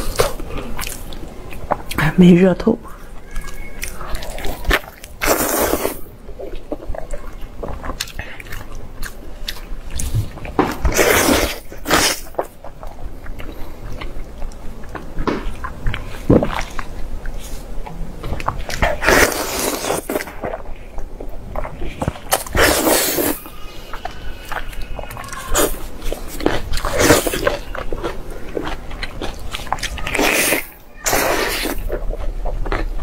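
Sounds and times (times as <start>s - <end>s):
person chewing meat: 0.0s - 2.1s, 2.9s - 33.0s.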